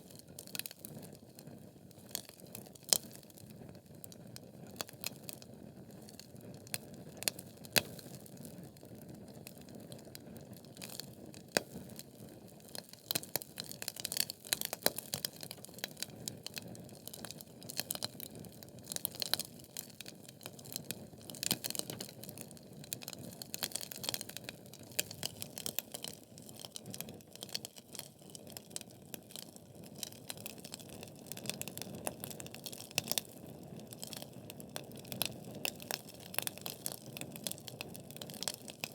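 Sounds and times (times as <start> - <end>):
logs crackling and popping: 0.0 - 3.4, 4.1 - 8.7, 9.4 - 38.9.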